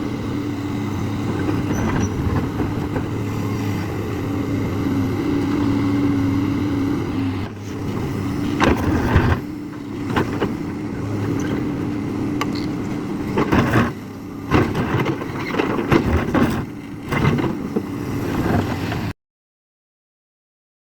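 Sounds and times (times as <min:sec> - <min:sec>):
diesel engine humming: 0:00.0 - 0:19.1.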